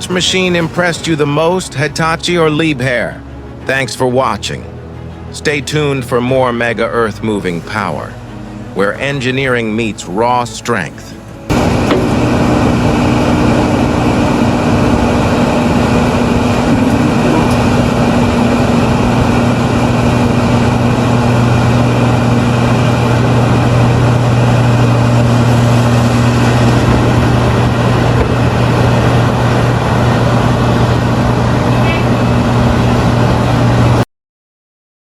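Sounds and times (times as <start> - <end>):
earthmoving machine diesel engine: 0.0 - 34.0.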